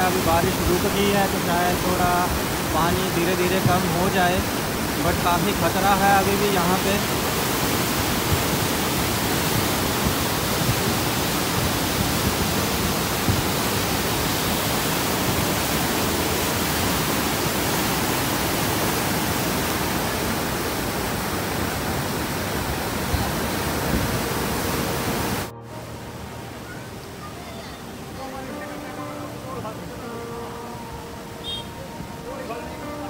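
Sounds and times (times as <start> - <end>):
river rushing over boulders: 0.0 - 33.0.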